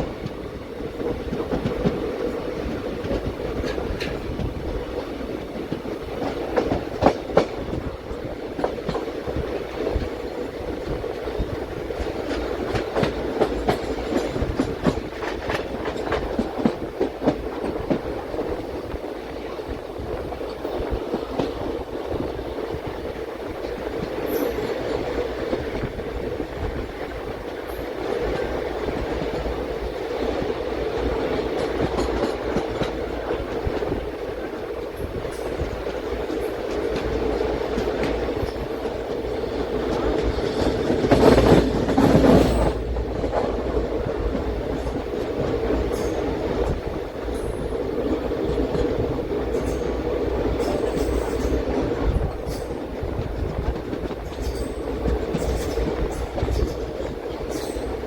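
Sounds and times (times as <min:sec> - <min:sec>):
train clickety-clack: 0:00.0 - 0:58.0
train wheels rumbling on rail: 0:00.0 - 0:58.0.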